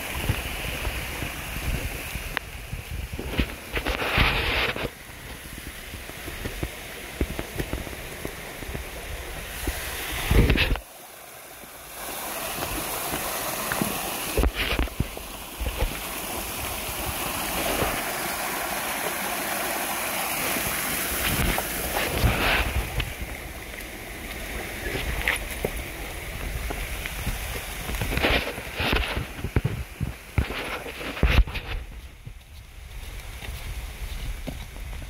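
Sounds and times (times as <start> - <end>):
water running over rocks: 0.0 - 35.0.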